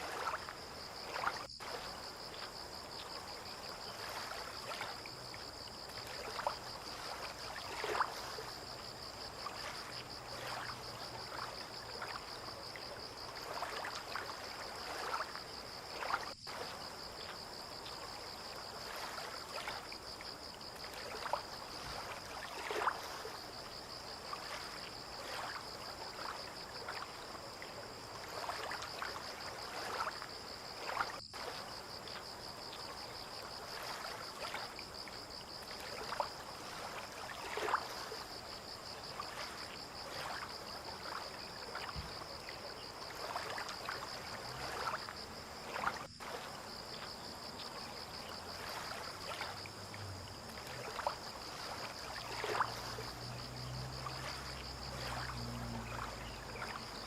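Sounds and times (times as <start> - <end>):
high insect trill: 0.0 - 57.0
water lapping and splashing: 0.0 - 57.0.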